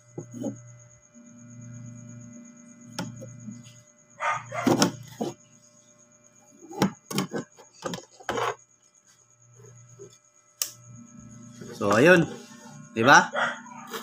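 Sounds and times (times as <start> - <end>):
low steady hum: 0.0 - 8.5, 9.2 - 13.9.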